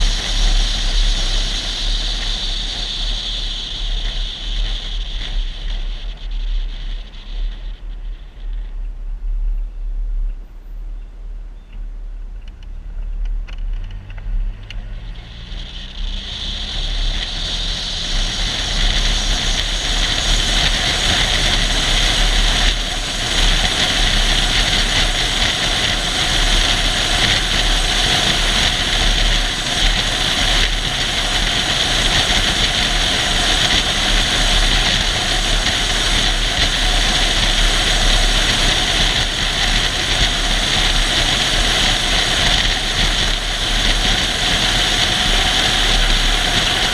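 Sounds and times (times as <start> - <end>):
vehicle engine accelerating: 0.0 - 11.1, 12.2 - 46.9
road noise: 0.0 - 46.9.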